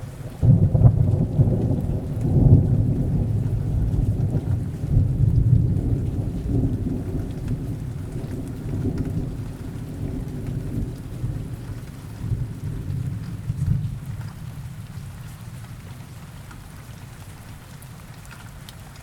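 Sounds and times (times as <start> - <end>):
rolling rumble of thunder: 0.0 - 16.7
steady rain: 0.0 - 19.0.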